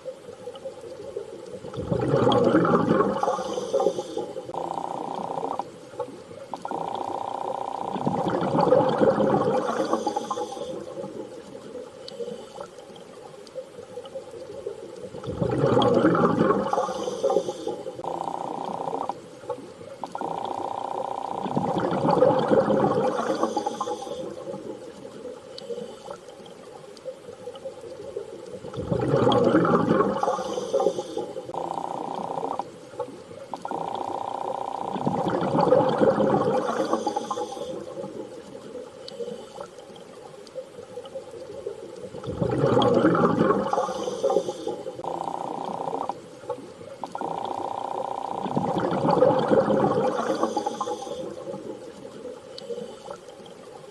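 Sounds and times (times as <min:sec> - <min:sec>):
surging water swells: 0:00.0 - 0:53.9.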